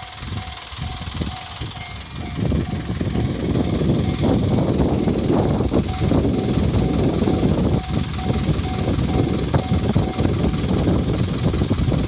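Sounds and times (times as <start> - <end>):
level crossing alarm tone: 0.0 - 5.2, 5.8 - 10.8
approaching vehicle rumble: 0.0 - 12.0.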